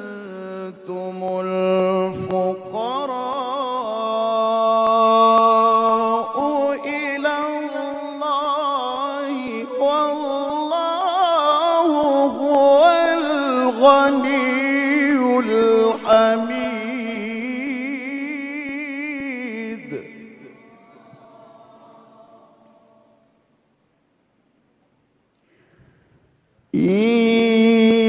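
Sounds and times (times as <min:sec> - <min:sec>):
man reciting melismatic chant: 0:00.0 - 0:23.6, 0:26.6 - 0:28.0.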